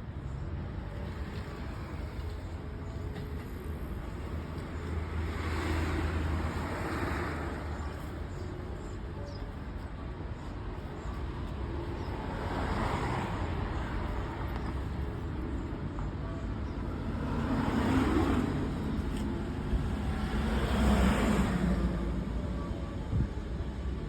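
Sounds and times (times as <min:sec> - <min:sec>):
low traffic rumble: 0:00.0 - 0:24.0
vehicles passing by: 0:00.0 - 0:24.0.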